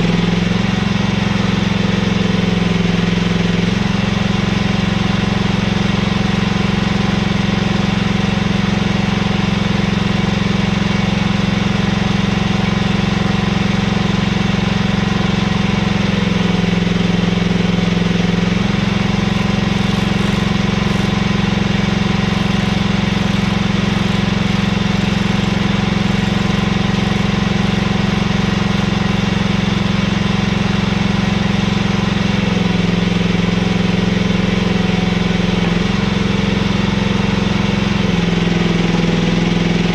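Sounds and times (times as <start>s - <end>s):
mini excavator engine running: 0.0s - 39.9s.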